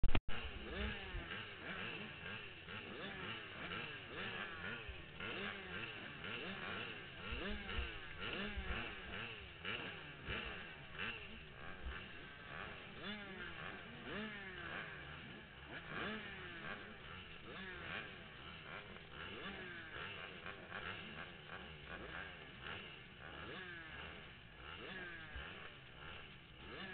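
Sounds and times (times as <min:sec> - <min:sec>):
motocross bikes revving: 0:00.0 - 0:26.9.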